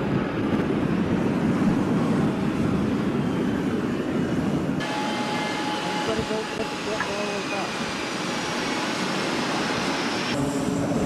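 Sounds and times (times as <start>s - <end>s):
loud jet engine noise: 0.0s - 11.0s
quieter jet whine with tones: 0.0s - 11.0s.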